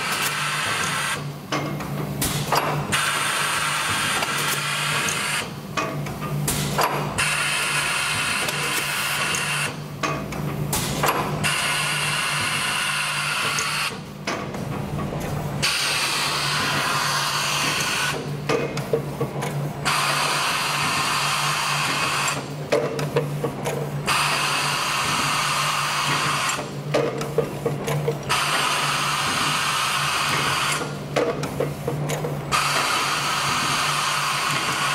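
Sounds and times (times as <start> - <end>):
machine clacks: 0.0 - 34.9.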